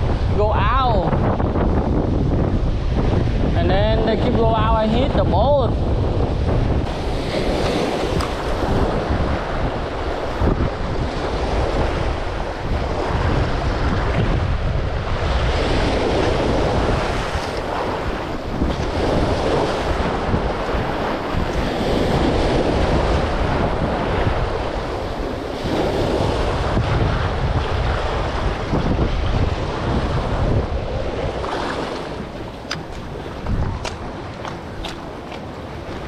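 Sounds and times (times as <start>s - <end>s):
sea waves washing: 0.0s - 36.0s
wind buffeting microphone: 0.0s - 36.0s.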